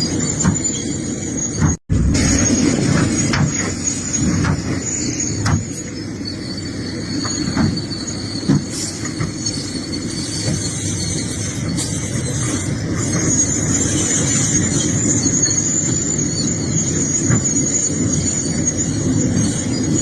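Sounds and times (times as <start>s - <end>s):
high metallic squeal: 0.0s - 20.0s.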